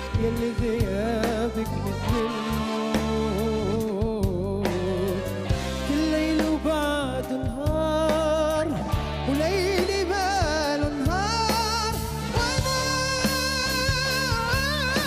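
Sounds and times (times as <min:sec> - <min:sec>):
band accompaniment: 0:00.0 - 0:15.0
man singing ballad: 0:00.0 - 0:15.0.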